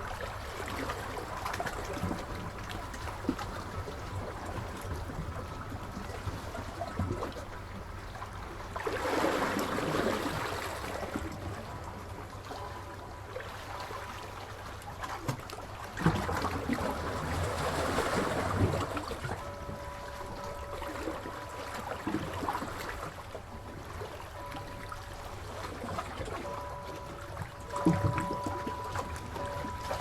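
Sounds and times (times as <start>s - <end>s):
sea waves surging: 0.0s - 11.6s, 16.0s - 30.0s
water sloshing gently: 0.0s - 30.0s.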